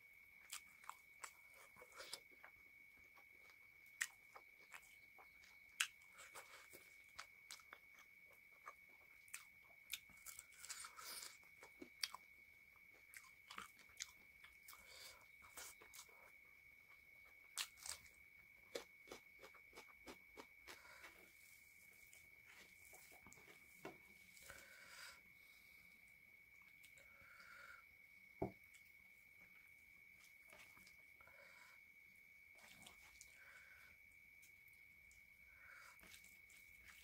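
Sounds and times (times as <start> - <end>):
faint high-pitched whine: 0.0 - 37.0.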